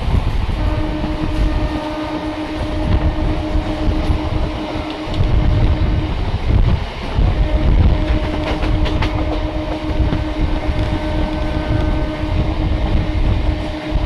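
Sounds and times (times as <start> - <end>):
steady hum: 0.0 - 14.0
wheels rumbling on rails: 0.0 - 14.0.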